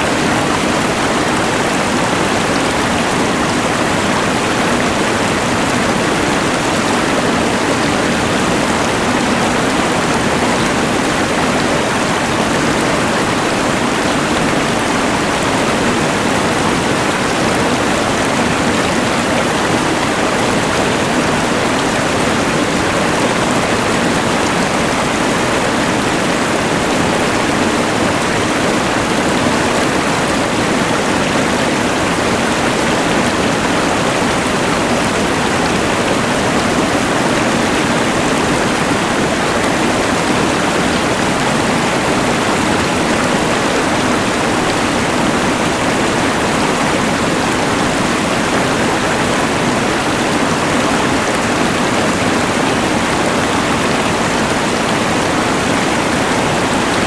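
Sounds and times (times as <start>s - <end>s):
rushing river: 0.0s - 57.0s.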